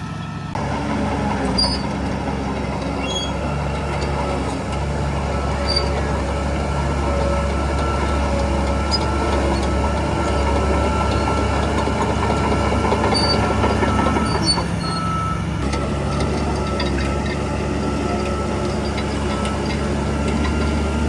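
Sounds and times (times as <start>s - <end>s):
bulldozer tracks clattering: 0.0s - 21.0s
diesel engine hum: 0.0s - 21.0s.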